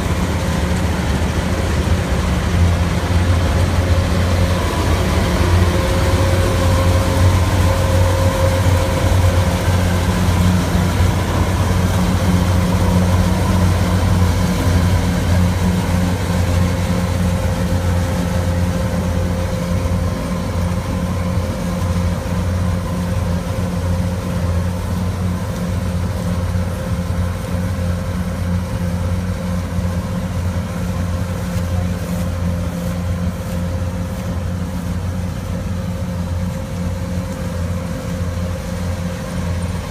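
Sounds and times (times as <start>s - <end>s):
harvester engine droning: 0.0s - 39.9s
steady engine whine: 0.0s - 39.9s.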